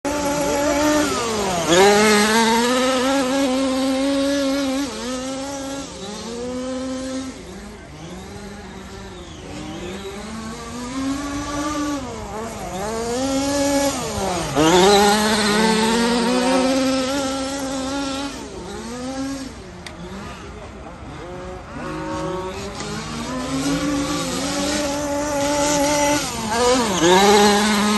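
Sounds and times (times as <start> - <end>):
rc car motors whining: 0.1 - 27.9.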